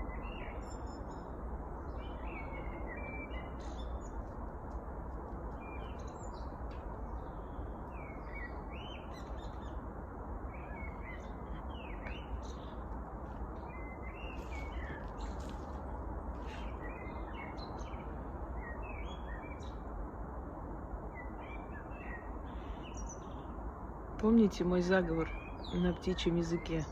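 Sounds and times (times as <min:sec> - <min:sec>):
steady rushing background noise: 0:00.0 - 0:25.8
songbirds chirping: 0:00.0 - 0:26.9.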